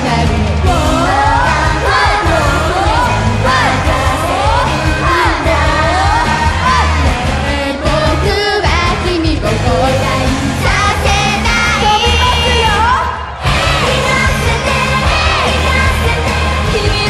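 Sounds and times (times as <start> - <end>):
female group singing: 0.0 - 17.0
pop backing track with heavy bass: 0.0 - 17.0.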